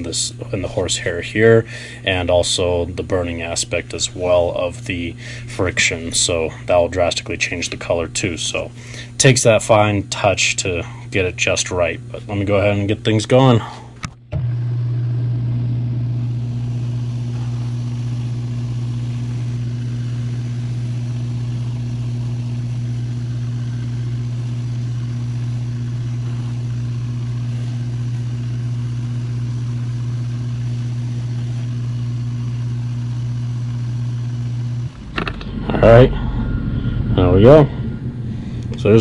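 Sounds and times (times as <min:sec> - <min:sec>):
electric motor humming: 0:00.0 - 0:13.4, 0:14.0 - 0:39.0.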